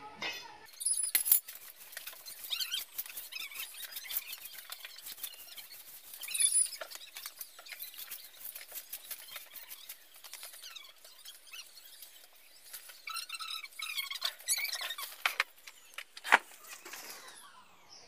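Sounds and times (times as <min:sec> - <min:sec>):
high squeaks: 0:00.7 - 0:17.7.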